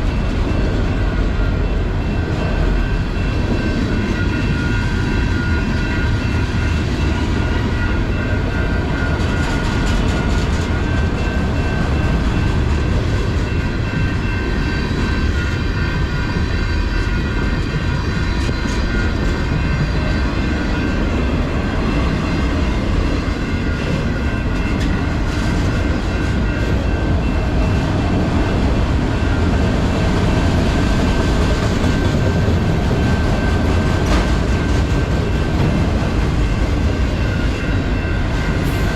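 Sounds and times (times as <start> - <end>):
freight train cars rumbling: 0.0 - 38.9.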